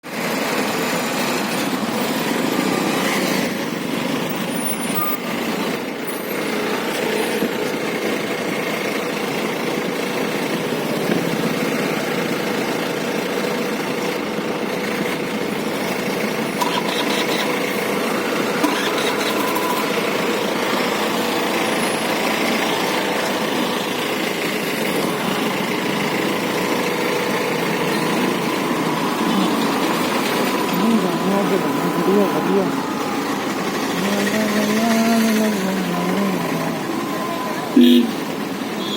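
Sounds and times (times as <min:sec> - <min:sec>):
wind and road noise: 0:00.0 - 0:38.9
scooter engine running: 0:05.4 - 0:38.9.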